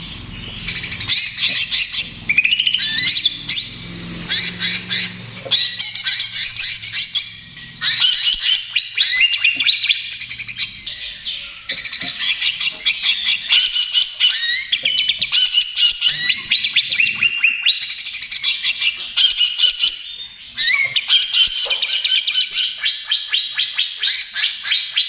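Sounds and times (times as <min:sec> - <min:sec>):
bird singing fast chattering trills: 0:00.0 - 0:25.0.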